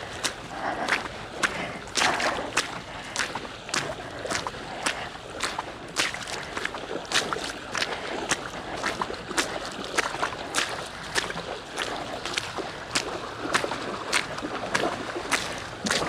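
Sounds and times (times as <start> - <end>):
footsteps splashing through shallow water: 0.0 - 16.0.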